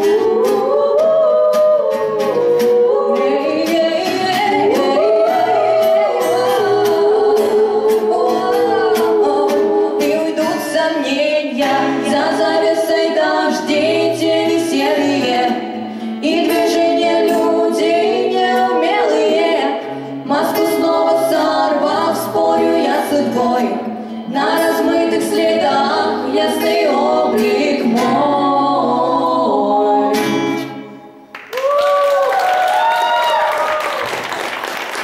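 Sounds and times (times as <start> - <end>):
strummed acoustic guitar: 0.0 - 29.0
women singing together: 0.0 - 31.0.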